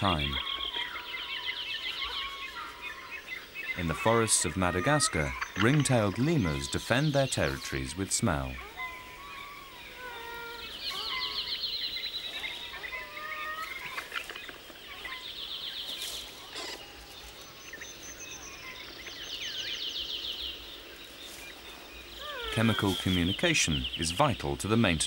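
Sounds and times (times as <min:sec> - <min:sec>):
bird trilling: 0:00.0 - 0:20.6, 0:21.3 - 0:24.4.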